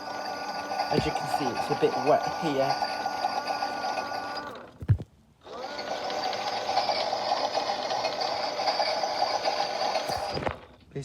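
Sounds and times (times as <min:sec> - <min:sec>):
small electric motor whirring: 0:00.0 - 0:10.8.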